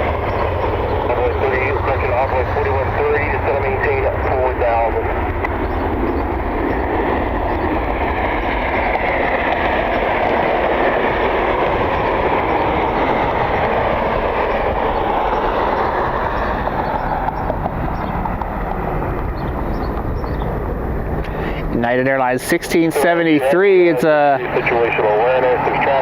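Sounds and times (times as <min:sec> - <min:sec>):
jet airliner engine rush: 0:00.0 - 0:26.0
wind rumbling on microphone: 0:00.0 - 0:26.0.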